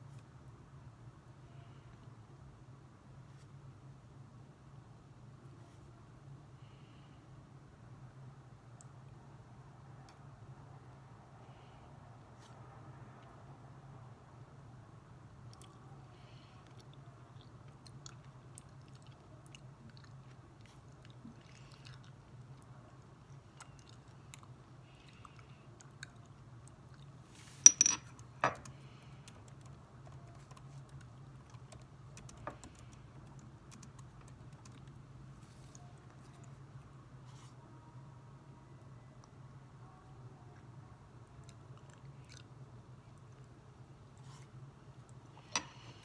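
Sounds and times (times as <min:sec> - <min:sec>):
faint low hum: 0:00.0 - 0:46.0.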